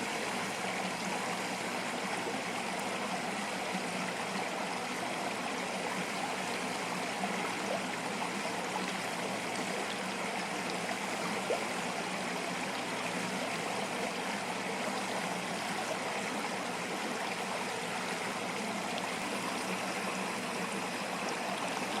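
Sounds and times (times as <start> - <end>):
stream flowing: 0.0 - 22.0.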